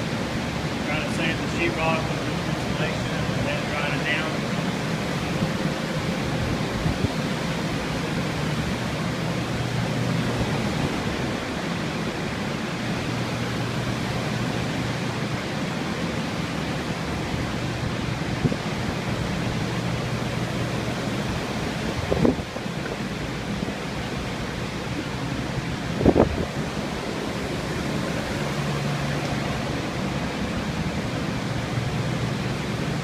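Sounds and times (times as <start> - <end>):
blower fans rushing: 0.0 - 33.0
low motor hum: 0.0 - 33.0.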